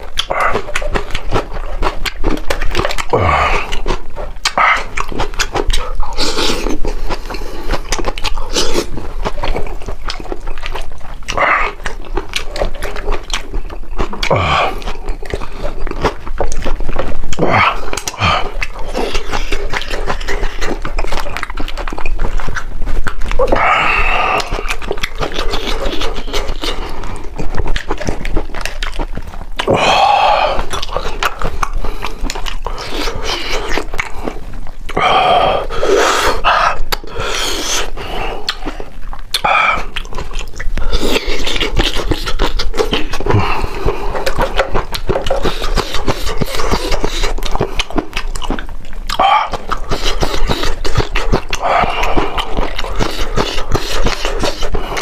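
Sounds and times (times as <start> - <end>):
chewing and lip-smacking: 0.0 - 55.0.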